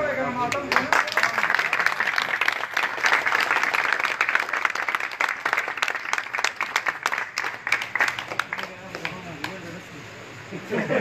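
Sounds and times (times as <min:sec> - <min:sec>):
crowd applauding: 0:00.5 - 0:09.7.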